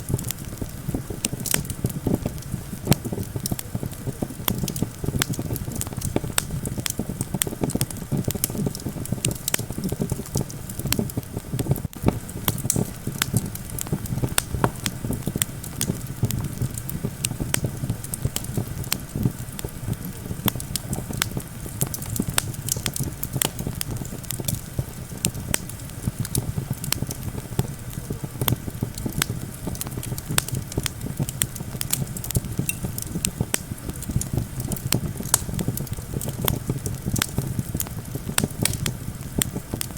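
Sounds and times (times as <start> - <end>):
low rumble of wind: 0.0 - 39.9
wood fire crackling and popping: 0.0 - 39.9.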